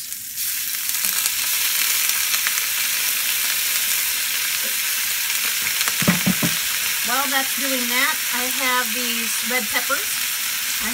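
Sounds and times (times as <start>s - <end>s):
water sizzling in hot oil: 0.0s - 10.9s.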